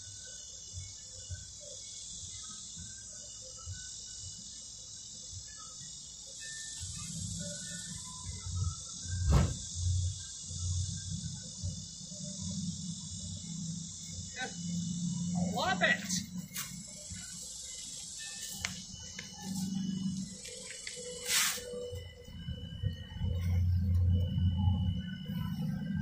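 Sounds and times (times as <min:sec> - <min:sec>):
faint chirps: 0:00.0 - 0:26.0
high-pitched insect chorus: 0:00.0 - 0:26.0.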